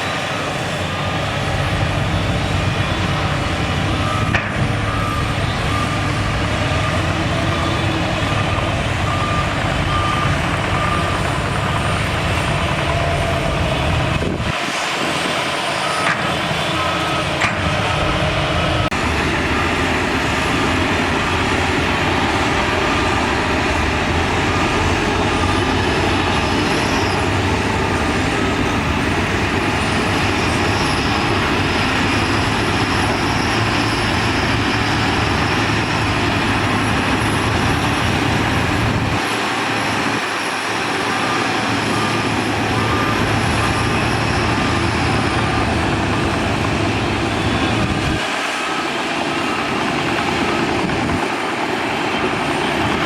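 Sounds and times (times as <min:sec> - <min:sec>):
heavy diesel machinery rumbling: 0:00.0 - 0:53.0.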